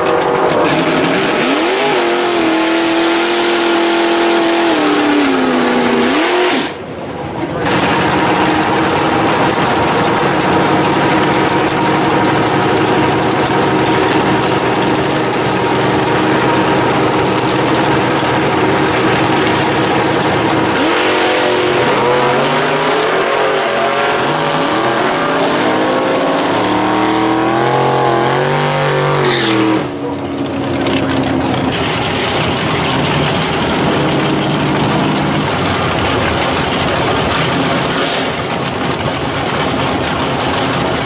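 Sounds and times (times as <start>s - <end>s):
vw engine revving: 0.0s - 6.9s, 7.5s - 41.0s.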